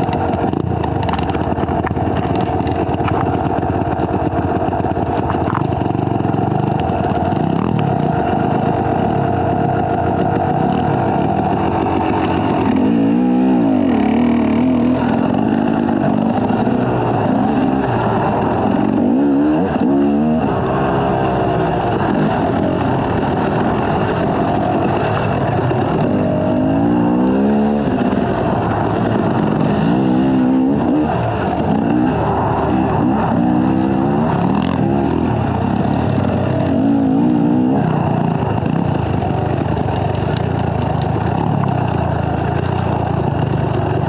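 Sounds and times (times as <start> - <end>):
dirt bike engine revving: 0.0 - 43.7.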